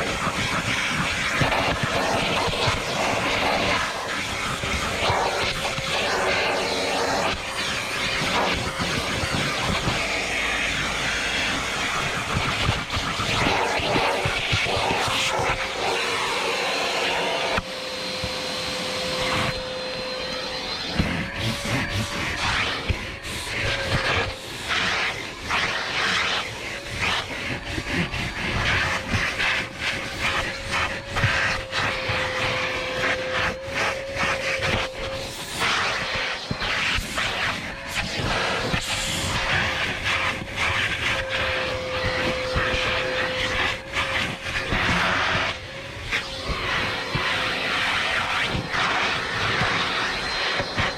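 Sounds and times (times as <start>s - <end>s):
vacuum cleaner on carpet: 0.0s - 50.9s.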